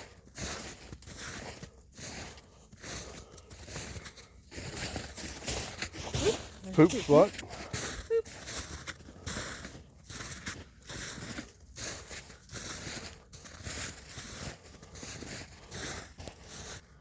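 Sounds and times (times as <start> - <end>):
footsteps crunching in snow: 0.0 - 17.0.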